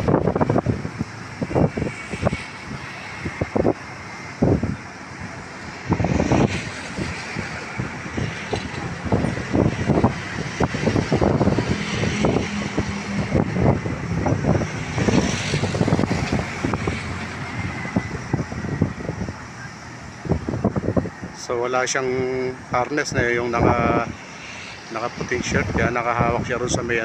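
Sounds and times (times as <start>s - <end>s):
steady engine hum: 0.0s - 27.0s
vehicle engine noise: 0.0s - 27.0s
wind buffeting microphone: 0.0s - 27.0s.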